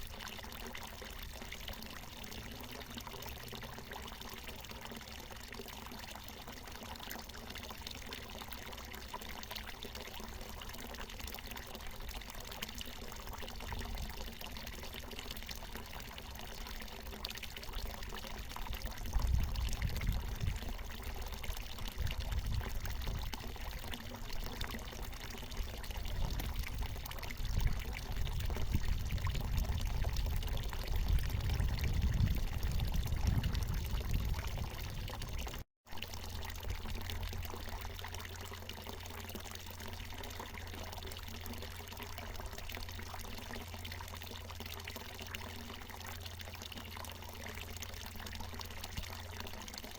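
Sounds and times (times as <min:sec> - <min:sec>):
spring water pouring: 0:00.0 - 0:49.9.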